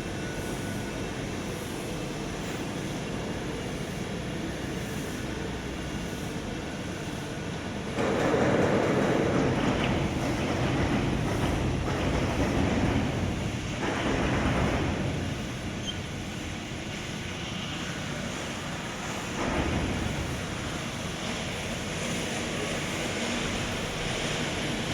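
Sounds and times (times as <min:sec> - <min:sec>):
industrial machinery rumble: 0:00.0 - 0:24.9.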